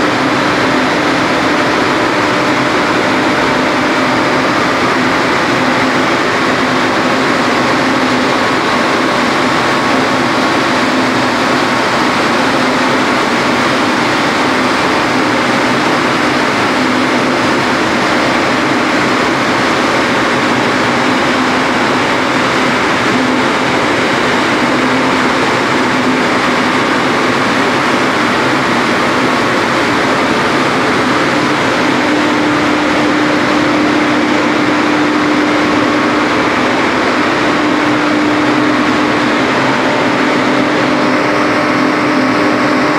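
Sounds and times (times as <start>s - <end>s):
turbine machine hum: 0.0s - 42.9s.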